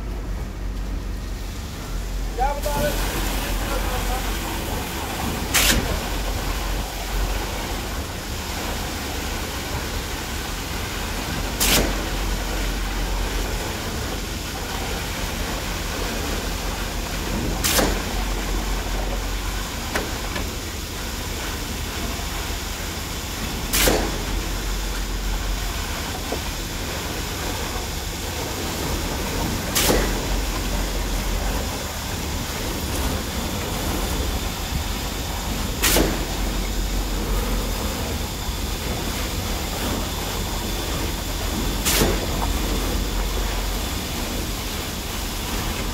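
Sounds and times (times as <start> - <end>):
pump engine droning: 0.0 - 45.9.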